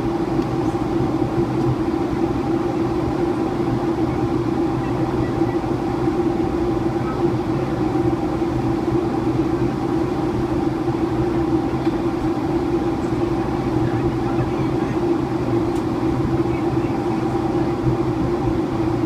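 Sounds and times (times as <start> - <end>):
aircraft engine hum: 0.0 - 19.0
airflow rush in aircraft cabin: 0.0 - 19.0.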